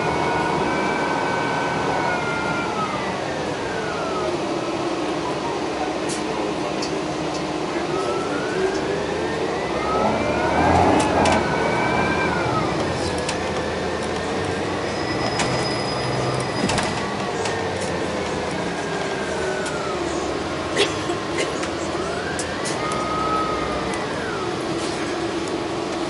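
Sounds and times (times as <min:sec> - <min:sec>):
bus engine whining: 0:00.0 - 0:26.0
road noise: 0:00.0 - 0:26.0.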